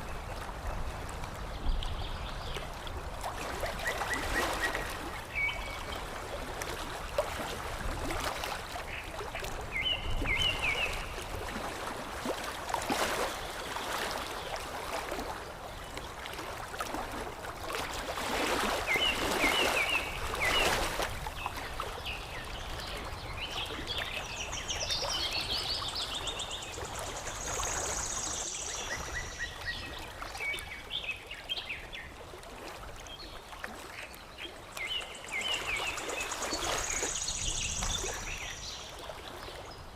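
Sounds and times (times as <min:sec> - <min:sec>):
water lapping: 0:00.0 - 0:39.9.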